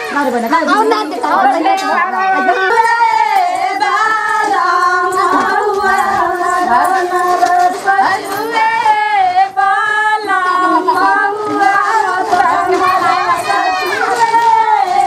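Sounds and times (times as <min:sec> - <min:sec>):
women singing together: 0:00.0 - 0:15.0.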